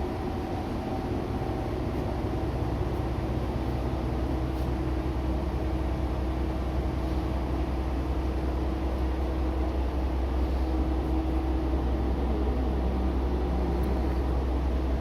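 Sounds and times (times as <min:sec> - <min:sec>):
diesel railcar engine running: 0:00.0 - 0:15.0.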